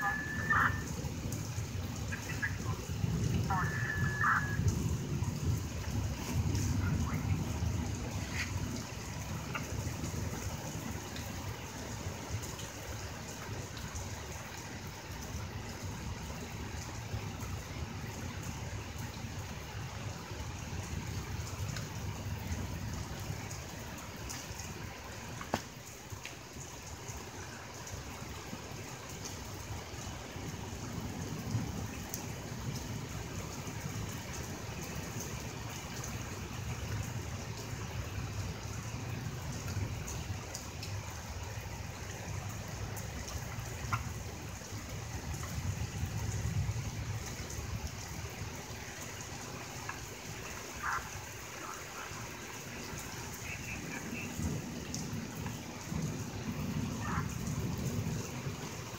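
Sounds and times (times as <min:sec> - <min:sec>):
low thunder rumble: 0:00.0 - 0:25.0, 0:29.4 - 0:49.7, 0:50.3 - 0:58.9
rain hissing: 0:00.0 - 0:58.9.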